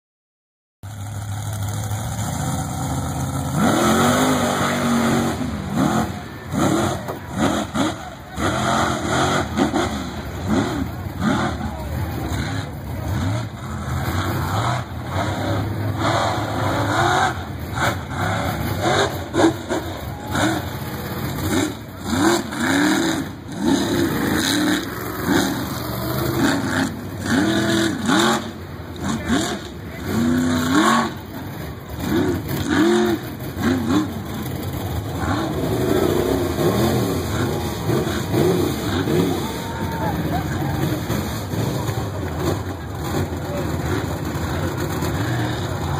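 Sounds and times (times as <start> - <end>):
truck engine revving: 0.9 - 45.9.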